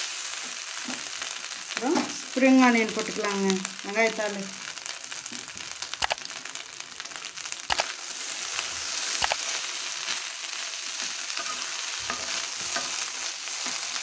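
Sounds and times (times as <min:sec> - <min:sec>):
spatula stirring and tossing rice: 0:00.0 - 0:02.1, 0:04.6 - 0:14.0
rice sizzling in a metal pan: 0:00.0 - 0:14.0.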